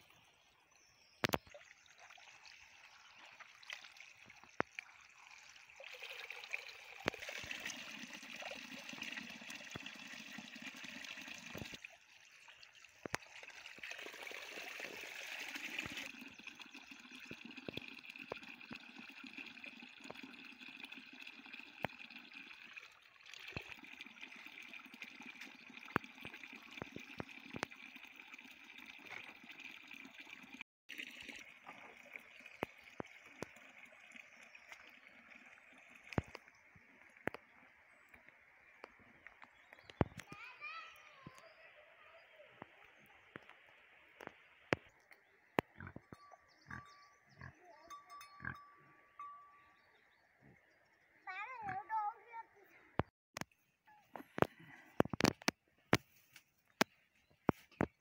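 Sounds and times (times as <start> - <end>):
water trickling into basin: 0.7 - 41.7, 44.2 - 52.5.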